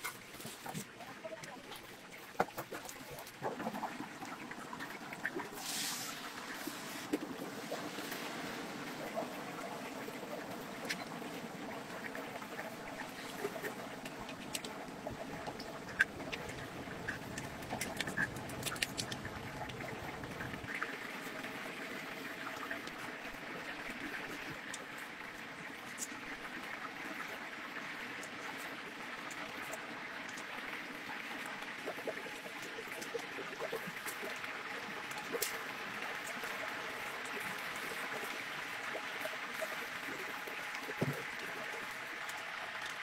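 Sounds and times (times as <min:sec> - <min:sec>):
chicken deep-frying in oil: 0:00.0 - 0:43.0.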